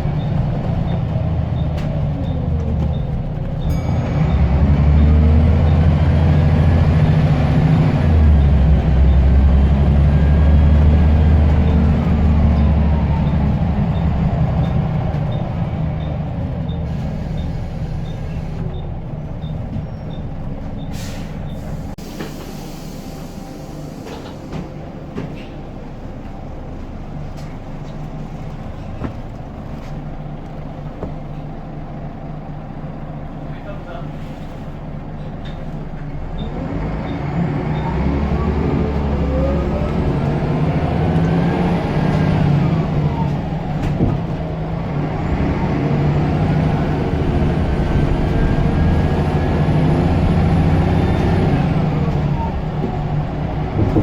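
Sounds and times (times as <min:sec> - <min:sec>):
bus diesel engine pulling: 0:00.0 - 0:54.0.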